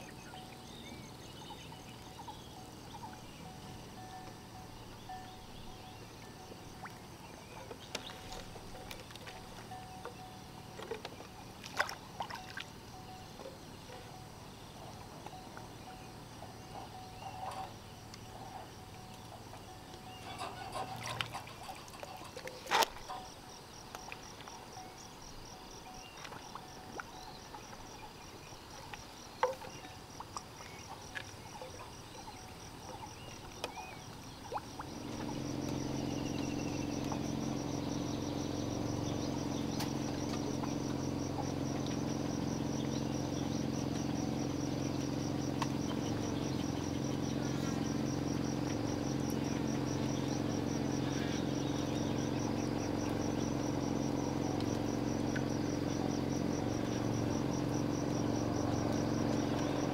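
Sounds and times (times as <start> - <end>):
insects trilling: 0.0 - 59.9
steady low hum: 0.0 - 59.9.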